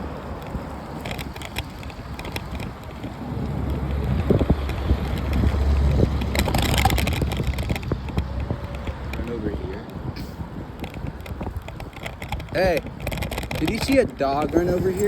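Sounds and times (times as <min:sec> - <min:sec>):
light clicks and rattles: 0:00.0 - 0:15.0
wind buffeting microphone: 0:00.0 - 0:15.0.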